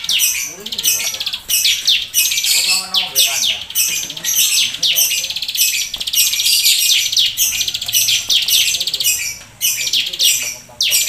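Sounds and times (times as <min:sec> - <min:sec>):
bird singing buzzy trills: 0:00.0 - 0:11.0.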